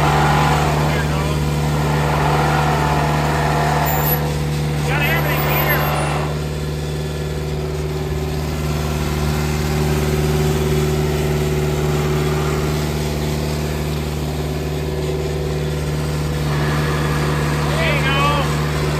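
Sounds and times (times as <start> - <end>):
tractor diesel engine idling: 0.0 - 18.9.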